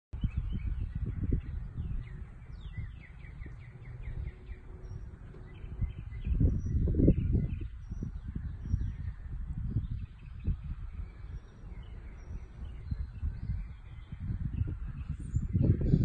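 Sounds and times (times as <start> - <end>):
low rumbling on microphone: 0.1 - 16.0
songbirds chirping: 0.2 - 16.0.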